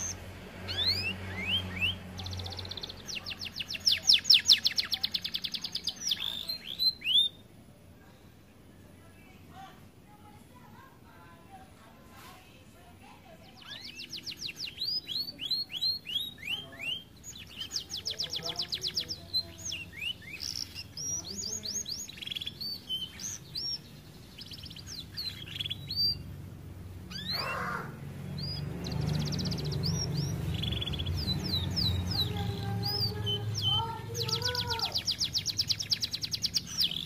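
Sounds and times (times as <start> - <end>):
canary singing trills: 0.0 - 7.7, 12.8 - 37.0.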